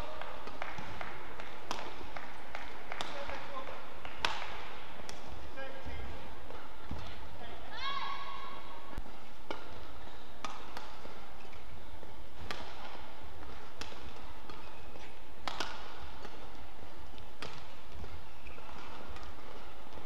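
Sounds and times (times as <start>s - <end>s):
racket striking shuttlecock: 0.0s - 5.4s, 9.0s - 20.0s
low hall hum: 0.0s - 20.0s.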